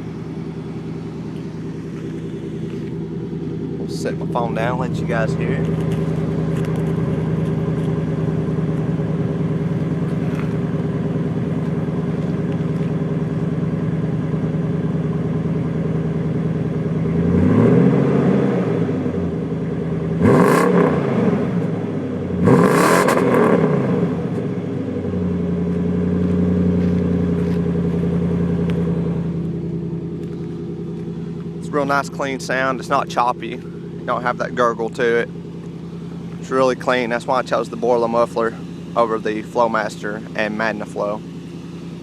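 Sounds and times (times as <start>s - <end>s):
engine idling and revving: 0.0s - 42.0s.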